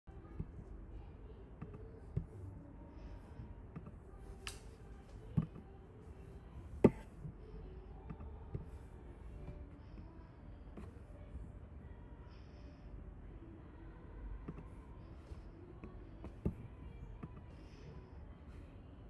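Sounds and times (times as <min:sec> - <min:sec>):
low room hum: 0:00.1 - 0:19.0.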